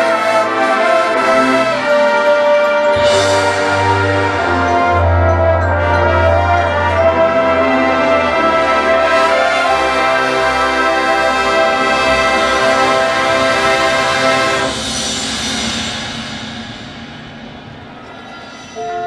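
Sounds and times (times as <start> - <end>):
loud sustained brass chords: 0.0 - 18.0, 18.8 - 19.0.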